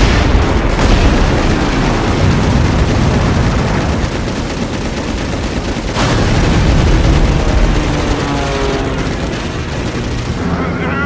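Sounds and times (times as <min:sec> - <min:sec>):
flak shells bursting: 0:00.0 - 0:10.5
anti-aircraft gunfire: 0:00.0 - 0:11.0
deep rumble: 0:00.0 - 0:11.0.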